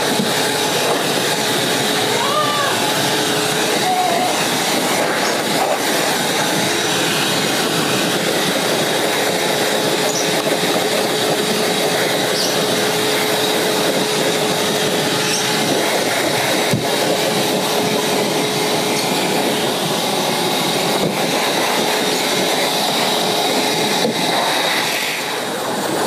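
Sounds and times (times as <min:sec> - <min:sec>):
shop vacuum running: 0:00.0 - 0:26.0.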